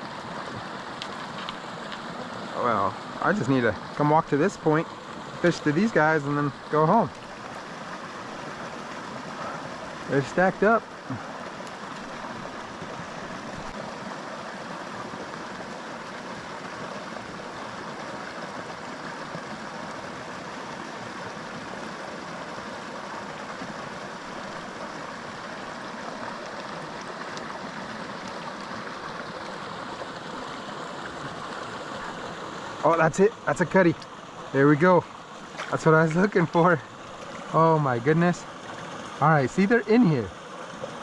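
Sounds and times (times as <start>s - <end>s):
creek flowing: 0.0s - 41.0s.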